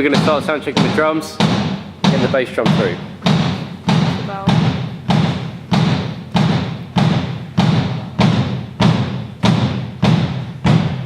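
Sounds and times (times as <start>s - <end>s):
kick drum hits: 0.0s - 11.0s.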